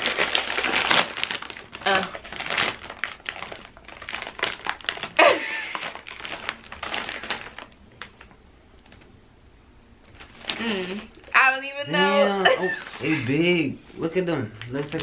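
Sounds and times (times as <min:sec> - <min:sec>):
plastic chip bag crinkling: 0:00.0 - 0:09.1, 0:10.0 - 0:11.4, 0:12.6 - 0:15.0.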